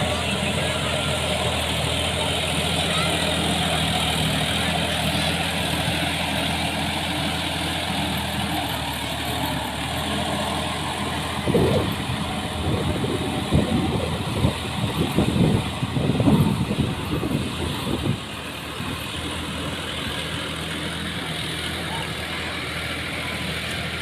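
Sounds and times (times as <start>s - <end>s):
diesel tractor engine idling: 0.0s - 24.0s.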